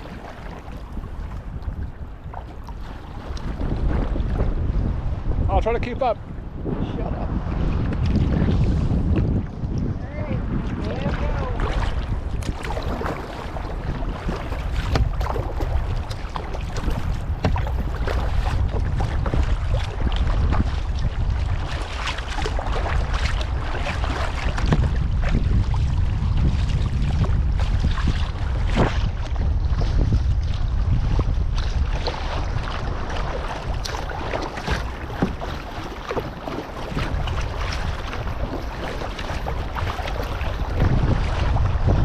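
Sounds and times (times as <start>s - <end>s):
kayak paddles splashing: 0.0s - 5.4s, 10.5s - 42.0s
water washing past hull: 0.0s - 42.0s
wind rumbling on microphone: 0.0s - 42.0s.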